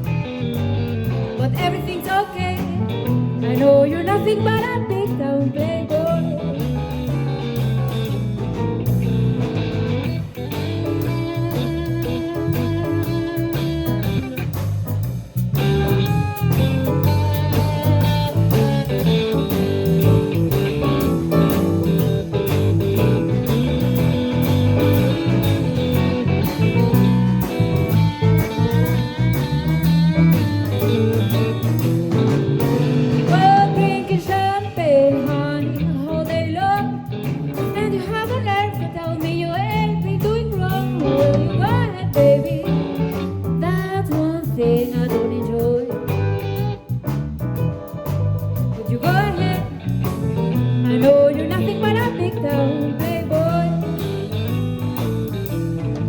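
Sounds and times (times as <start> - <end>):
bent sliding guitar lead line: 0.0 - 56.0
blues band playing: 0.0 - 56.0.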